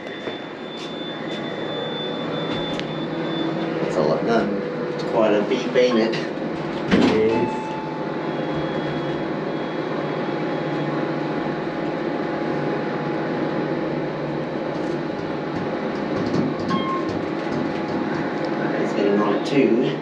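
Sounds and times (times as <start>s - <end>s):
elevator hum and rumble: 0.0s - 20.0s.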